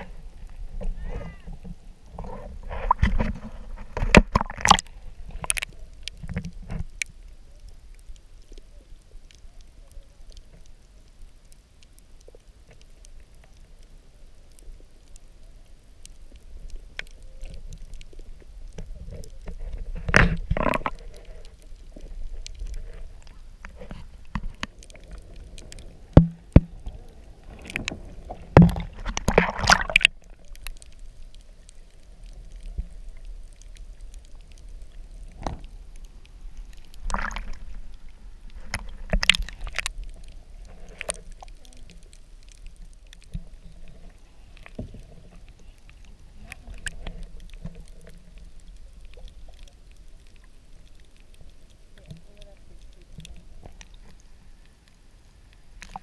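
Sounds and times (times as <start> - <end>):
water sloshing and splashing: 0.0 - 7.2, 16.2 - 54.7.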